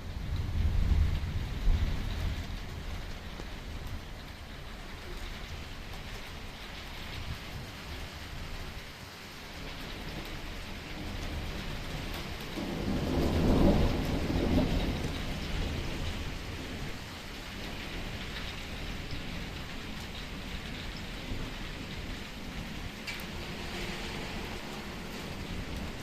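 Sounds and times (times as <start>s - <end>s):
thunder rumbling: 0.0s - 8.8s, 9.5s - 26.0s
light steady rain: 0.0s - 26.0s.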